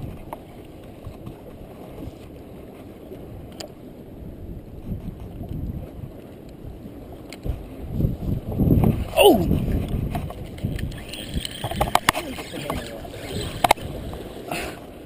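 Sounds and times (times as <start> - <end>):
water against shoreline rocks: 0.0 - 15.0
wind buffeting microphone: 0.0 - 15.0.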